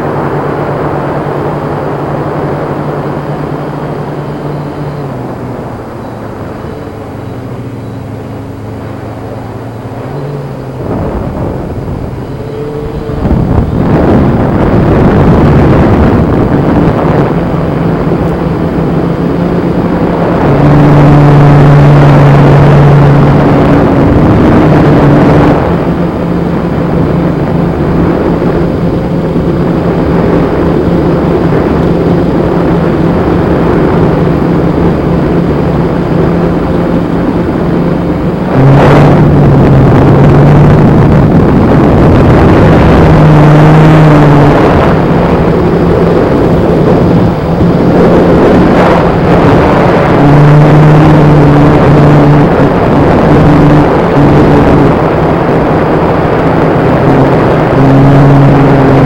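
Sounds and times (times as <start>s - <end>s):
drone motors and propellers: 0.0s - 59.0s.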